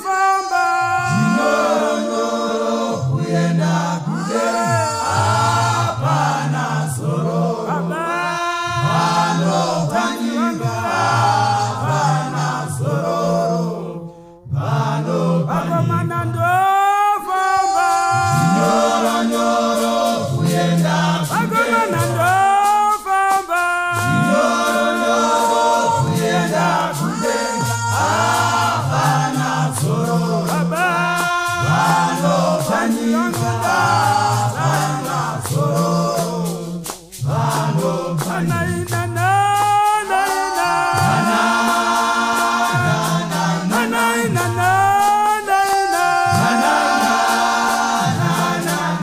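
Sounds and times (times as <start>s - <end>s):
male choir singing a cappella: 0.0s - 49.0s.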